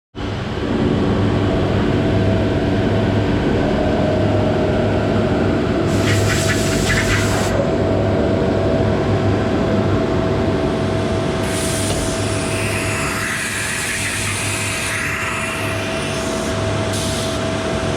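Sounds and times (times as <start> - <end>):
cnc router humming and whining: 0.2 - 17.9.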